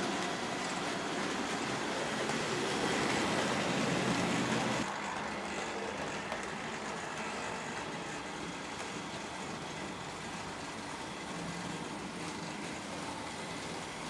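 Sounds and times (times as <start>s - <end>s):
model train motors whirring: 0.0s - 14.0s
model train wheels on rail: 0.0s - 14.0s.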